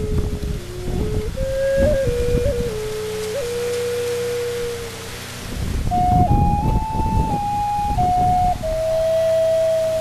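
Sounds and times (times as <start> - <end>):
low rushing noise: 0.0 - 10.0
slow flute-like melody: 0.0 - 10.0.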